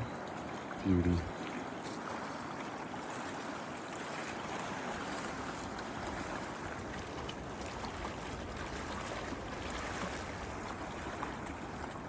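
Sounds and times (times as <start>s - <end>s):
running water rushing: 0.0s - 12.0s
wind rumbling on microphone: 2.0s - 12.0s.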